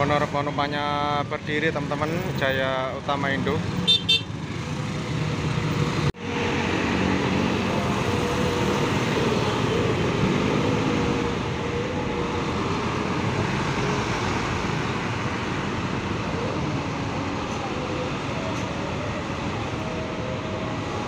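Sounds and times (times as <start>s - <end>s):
bus engines running slowly: 0.0s - 21.0s
rumble of traffic: 0.0s - 21.0s.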